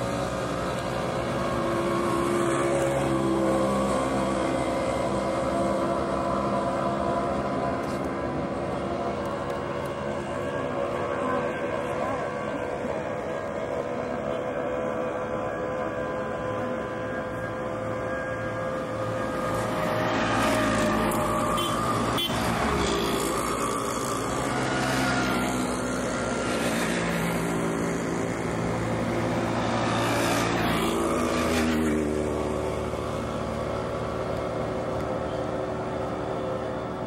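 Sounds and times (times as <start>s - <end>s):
vehicles passing: 0.0s - 37.0s.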